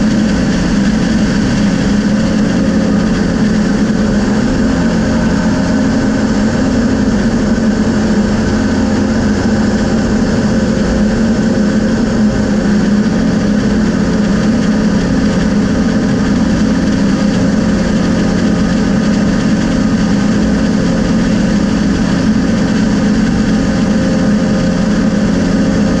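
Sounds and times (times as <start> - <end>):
light aircraft engine drone: 0.0 - 26.0.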